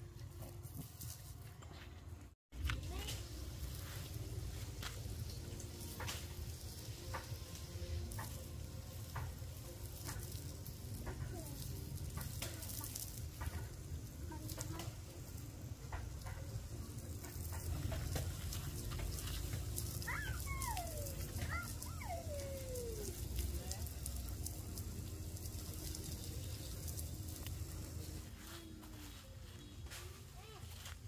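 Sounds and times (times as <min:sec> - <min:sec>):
sharp crackles: 0:02.6 - 0:28.4
steady sizzling: 0:02.6 - 0:30.4.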